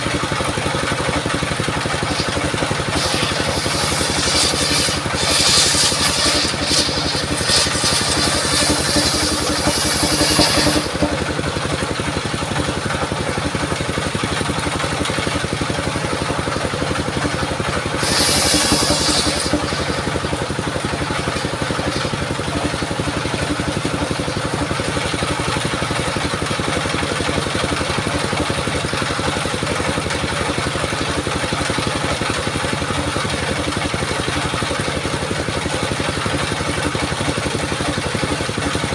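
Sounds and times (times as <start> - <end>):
saw blade whining through wood: 0.0 - 38.9
sawmill engine running: 0.0 - 38.9.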